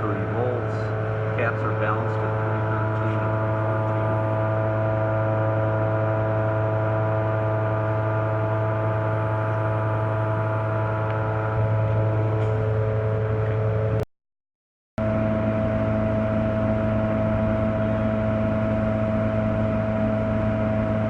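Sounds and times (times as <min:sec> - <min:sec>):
cooling fan running: 0:00.0 - 0:14.0, 0:15.0 - 0:21.0
welding power source humming: 0:00.0 - 0:14.0, 0:15.0 - 0:21.0.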